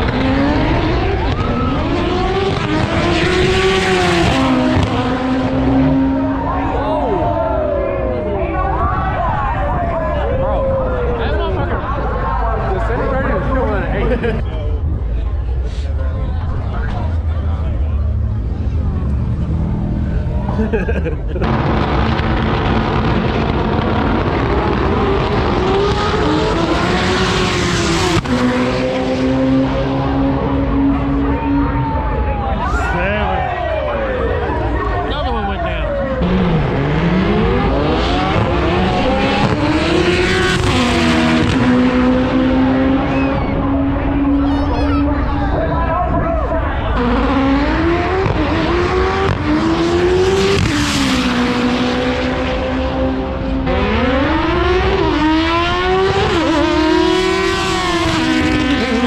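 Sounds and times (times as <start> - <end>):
drag racing car passing: 0.0 - 59.0.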